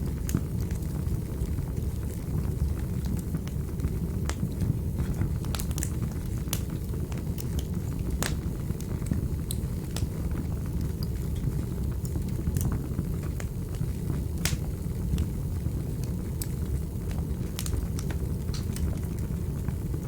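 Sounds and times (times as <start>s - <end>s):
fireplace fire crackling: 0.0s - 20.0s.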